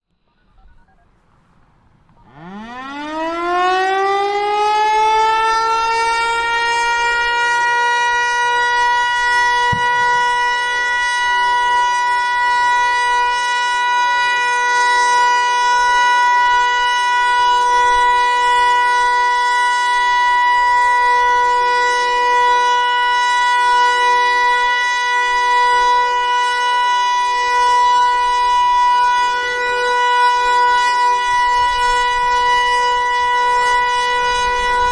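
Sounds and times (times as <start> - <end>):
warning siren steady tone: 0.1 - 34.9.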